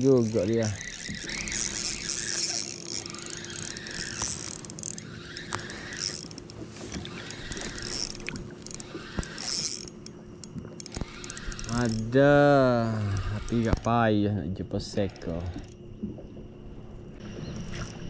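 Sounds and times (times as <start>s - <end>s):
reel rattling ticks: 0.0s - 15.8s
fishing reel gears whirring: 0.0s - 16.0s, 17.6s - 18.0s.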